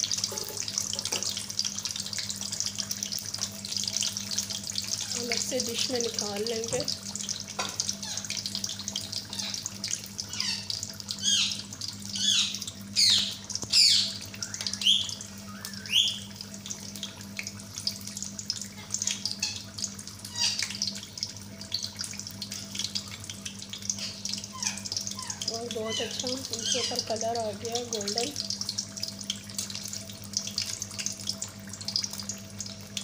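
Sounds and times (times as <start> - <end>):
food deep-frying in hot oil: 0.0 - 33.0.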